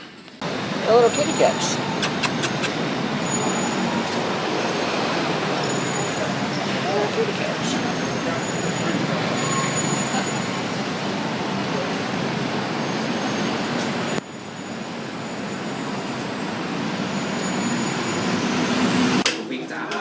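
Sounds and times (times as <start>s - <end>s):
road traffic passing: 0.0s - 19.9s.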